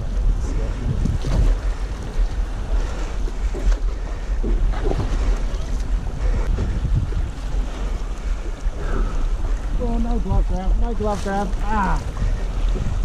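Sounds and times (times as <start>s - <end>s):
water slapping against boat hull: 0.0s - 13.0s
wind buffeting microphone: 0.0s - 13.0s.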